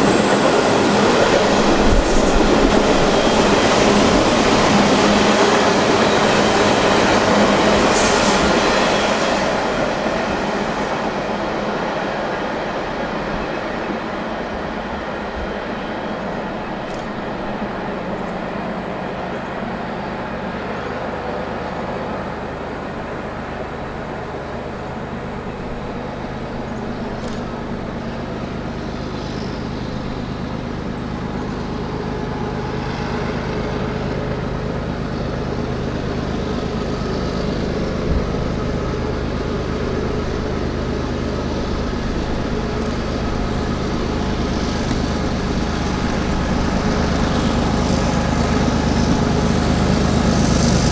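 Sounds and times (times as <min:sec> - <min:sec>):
freight train cars rumbling on rails: 0:00.0 - 0:50.9
low engine drone: 0:00.0 - 0:50.9.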